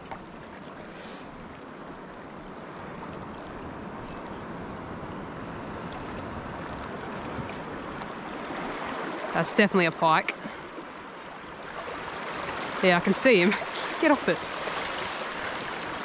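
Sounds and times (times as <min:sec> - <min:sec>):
small waves washing: 0:00.0 - 0:16.0.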